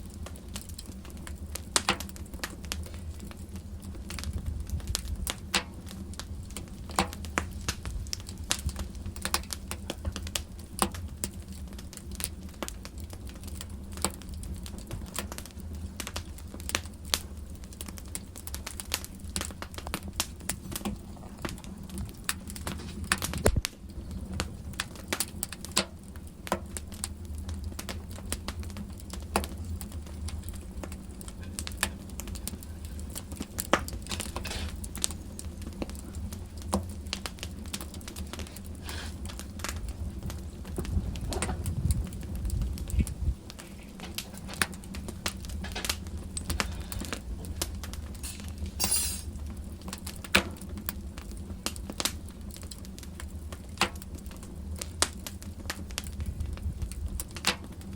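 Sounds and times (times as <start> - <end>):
fire crackling and popping: 0.0 - 57.9
low rumble of fire: 0.0 - 57.9.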